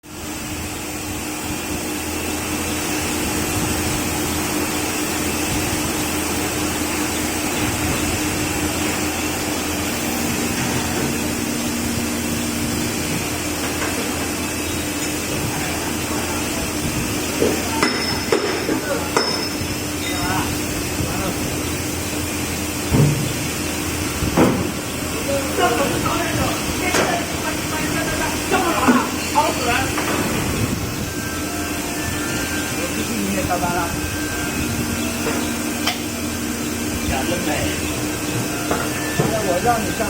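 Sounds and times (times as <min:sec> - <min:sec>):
machine hum and whine: 0:00.0 - 0:40.0.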